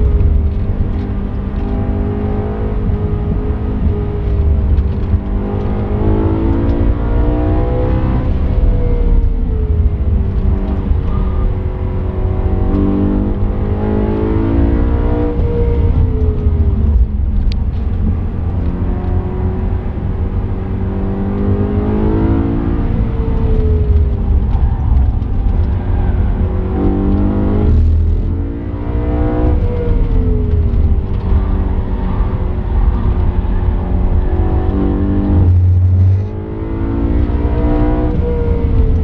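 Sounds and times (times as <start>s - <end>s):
car engine revving from inside cabin: 0.0s - 39.0s.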